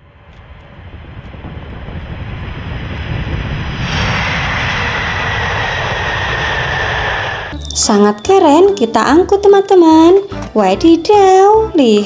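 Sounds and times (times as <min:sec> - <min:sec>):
airplane engine whine: 0:00.0 - 0:11.5.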